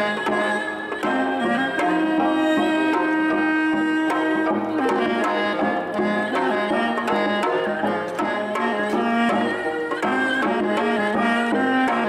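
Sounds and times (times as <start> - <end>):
bowed string instrument: 0.0 - 12.0.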